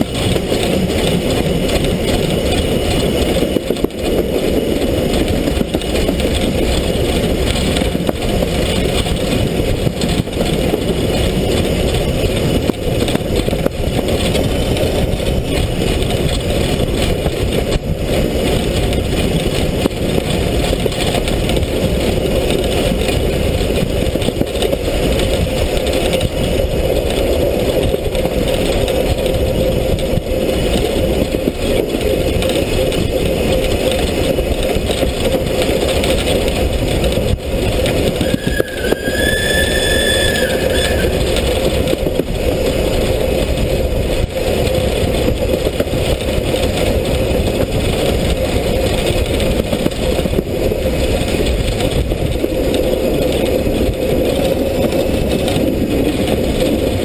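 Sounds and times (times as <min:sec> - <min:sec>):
steam locomotive rumbling on rails: 0:00.0 - 0:57.0.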